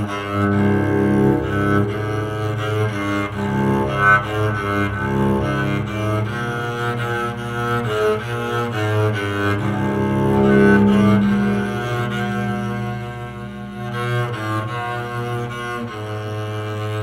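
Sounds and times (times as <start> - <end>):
electric cello melody: 0.0 - 17.0
held low cello note: 0.0 - 17.0.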